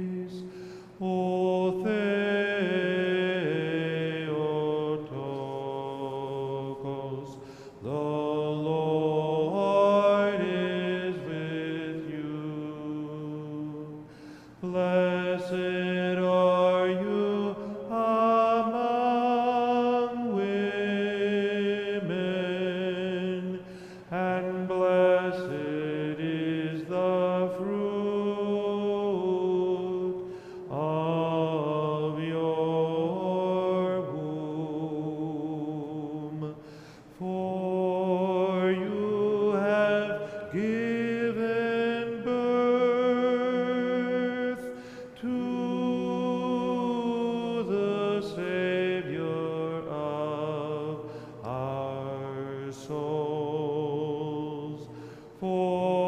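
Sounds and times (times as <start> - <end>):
voices singing slow chant: 0.0 - 56.0.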